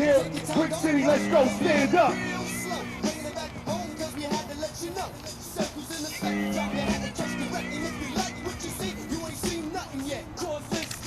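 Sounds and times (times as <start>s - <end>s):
hip-hop music: 0.0s - 11.0s.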